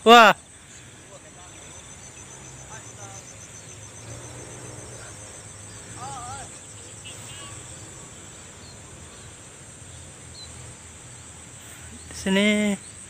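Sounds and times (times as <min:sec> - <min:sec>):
insects shrilling: 0:00.0 - 0:13.0
short warbling calls: 0:00.0 - 0:13.0.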